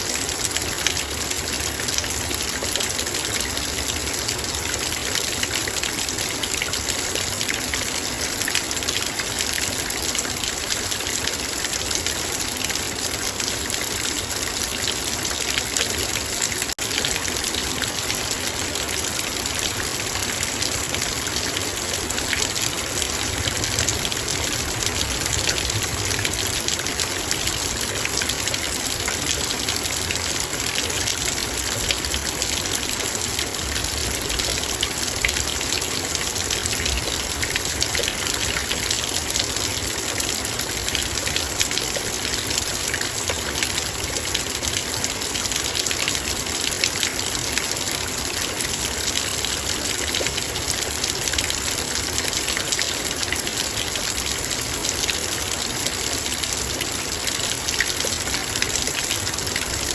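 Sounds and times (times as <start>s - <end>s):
heavy rain on a metal bowl: 0.0s - 59.9s.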